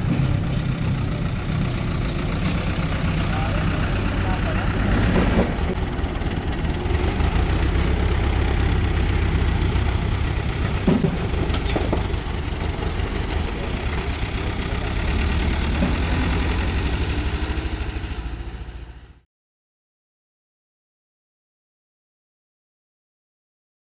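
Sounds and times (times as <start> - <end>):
diesel engine idling: 0.0 - 19.2.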